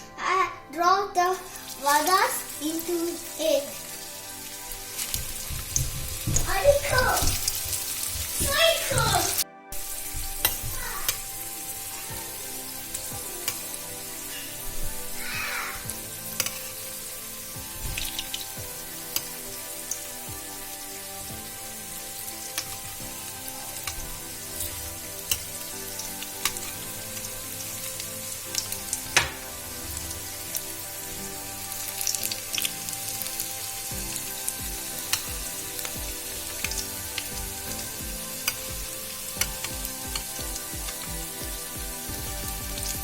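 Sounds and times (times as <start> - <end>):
food deep-frying in oil: 1.2 - 43.0
oil popping and crackling: 1.2 - 43.0.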